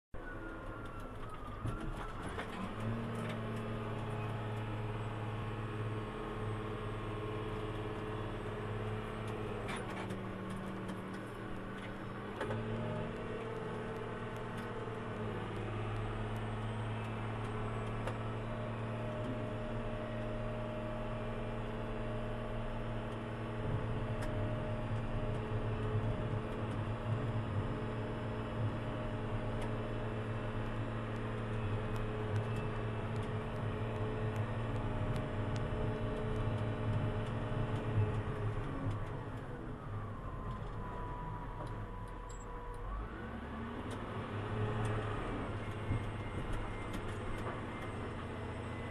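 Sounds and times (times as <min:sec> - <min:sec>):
diesel engine humming: 0:00.2 - 0:48.9.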